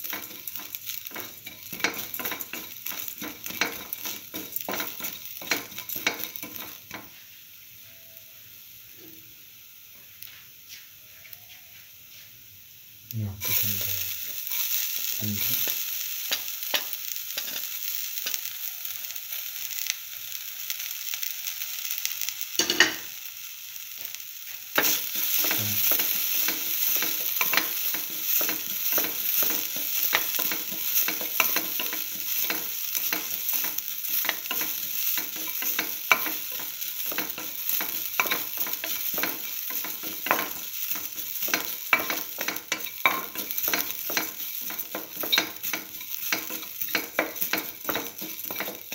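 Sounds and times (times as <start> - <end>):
food sizzling in oil: 0.0 - 48.9.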